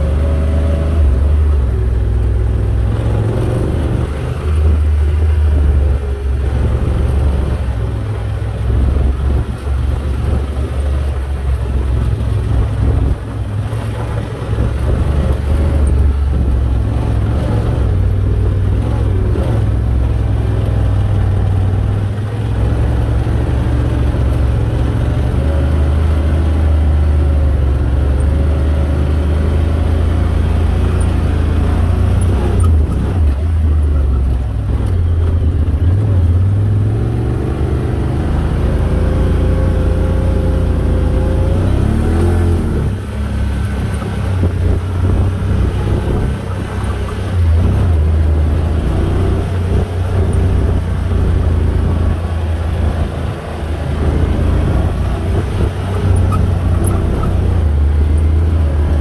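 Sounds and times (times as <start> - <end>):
quad bike engine rumbling: 0.0 - 59.0.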